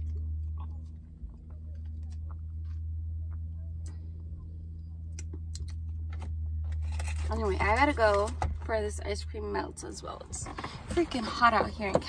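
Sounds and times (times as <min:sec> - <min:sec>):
car engine idling inside cabin: 0:00.0 - 0:12.0.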